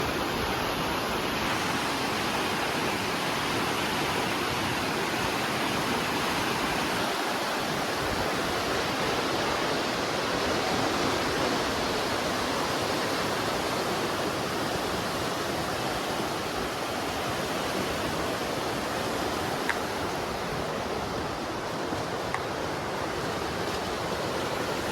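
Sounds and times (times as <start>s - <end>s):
floodwater rushing in river: 0.0s - 24.9s.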